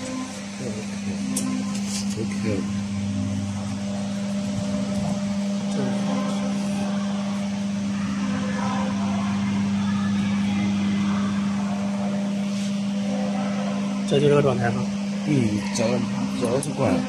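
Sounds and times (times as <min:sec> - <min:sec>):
machine hum with fan noise: 0:00.0 - 0:17.0.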